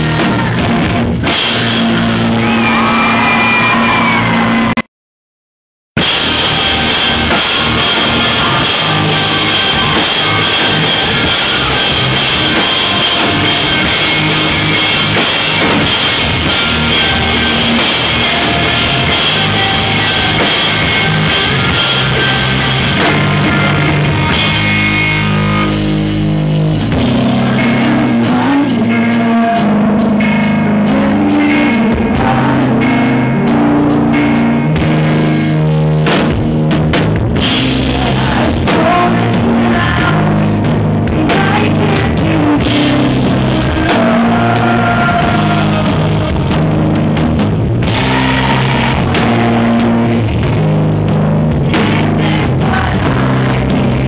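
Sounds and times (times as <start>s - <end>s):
amplified electric guitars: 0.0s - 4.8s, 6.0s - 54.0s
drum kit: 0.0s - 4.8s, 6.0s - 54.0s.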